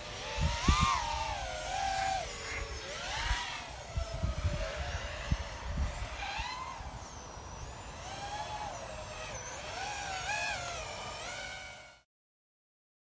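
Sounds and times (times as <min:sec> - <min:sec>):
quadcopter motors whining: 0:00.0 - 0:12.1.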